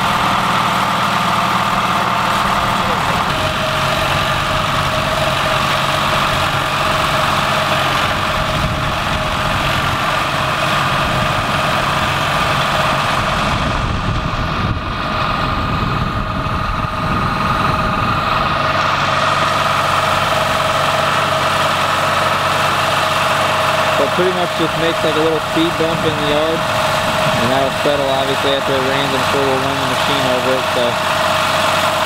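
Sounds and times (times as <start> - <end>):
engine rumble: 0.0 - 32.0
steady whine: 0.0 - 32.0.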